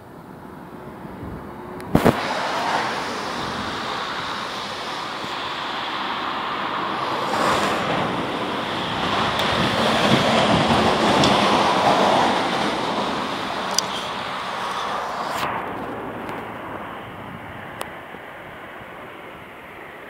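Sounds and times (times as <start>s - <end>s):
cars driving past: 0.2s - 20.0s.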